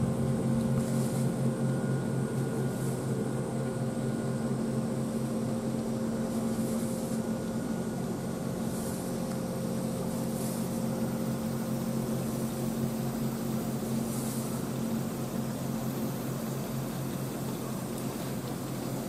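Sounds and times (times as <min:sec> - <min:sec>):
locomotive machinery hum: 0:00.0 - 0:19.0.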